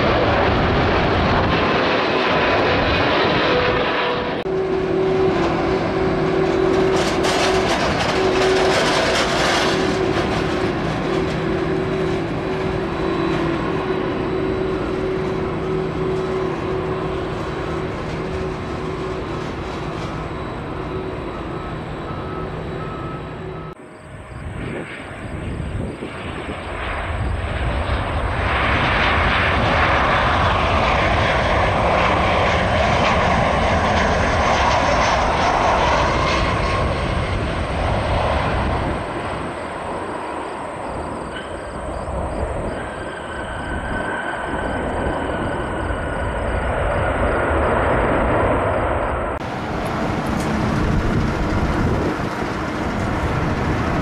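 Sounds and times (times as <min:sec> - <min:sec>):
jet engines whining: 0:00.0 - 0:54.0
jet on approach rushing: 0:00.0 - 0:54.0.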